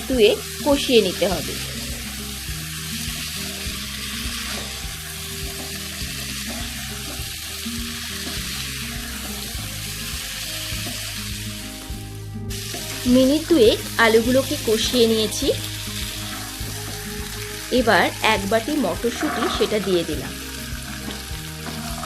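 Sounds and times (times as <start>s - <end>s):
potatoes sizzling in hot oil: 0.0s - 22.0s
soft background music: 0.0s - 22.0s.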